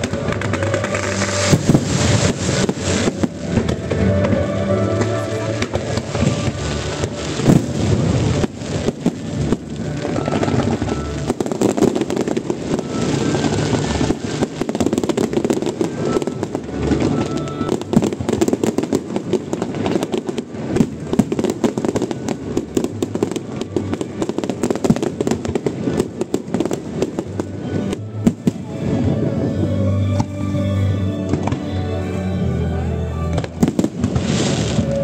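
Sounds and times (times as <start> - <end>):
fireworks crackling and popping: 0.0 - 32.2, 33.2 - 35.0.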